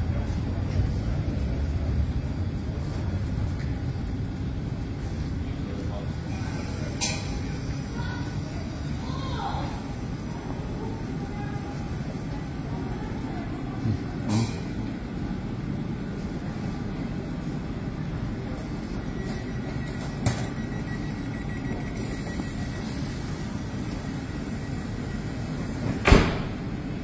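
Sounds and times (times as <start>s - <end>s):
electric trains rumbling: 0.0s - 27.0s.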